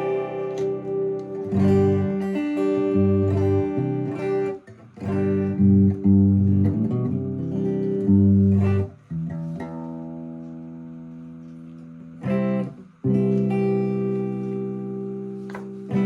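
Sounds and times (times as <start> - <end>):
electric guitar chords strummed: 0.0 - 16.0.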